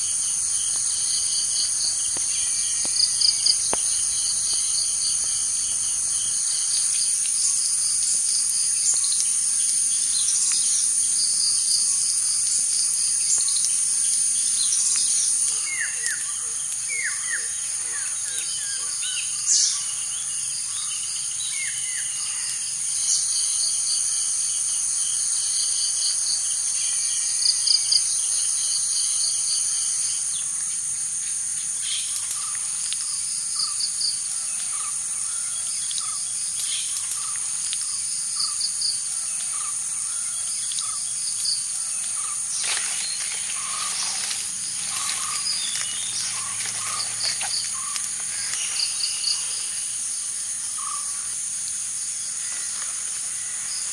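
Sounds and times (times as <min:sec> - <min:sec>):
insects droning: 0:00.0 - 0:53.9.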